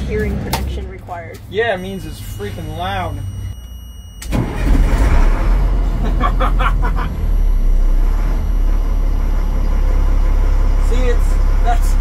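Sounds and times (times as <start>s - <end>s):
truck engine starting and running: 0.0s - 12.0s.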